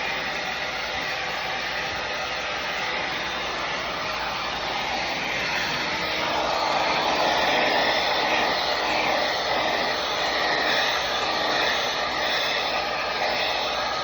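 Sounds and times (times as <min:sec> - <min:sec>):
hair dryer blowing air: 0:00.0 - 0:14.0.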